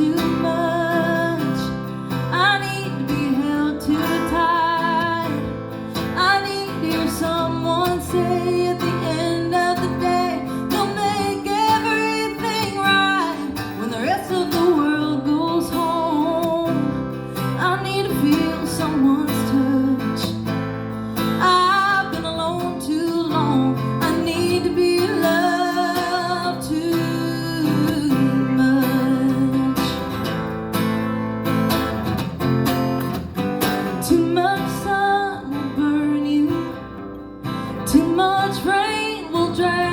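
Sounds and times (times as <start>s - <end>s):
woman singing with vibrato: 0.0s - 20.4s, 21.3s - 30.1s, 34.0s - 37.0s, 37.8s - 39.9s
acoustic guitar strumming: 0.0s - 39.9s.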